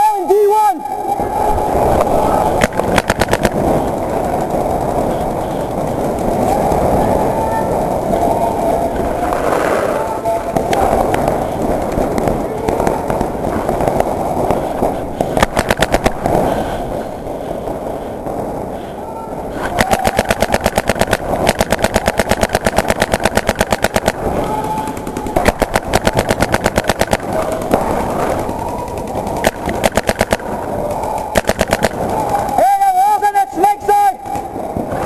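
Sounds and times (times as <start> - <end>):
paintball marker rapid firing: 1.7 - 18.2, 19.5 - 35.0.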